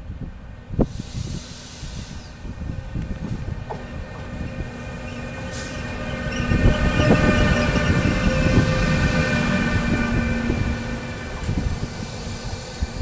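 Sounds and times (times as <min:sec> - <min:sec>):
train rolling rumble: 0:00.0 - 0:13.0
train whine: 0:00.8 - 0:13.0.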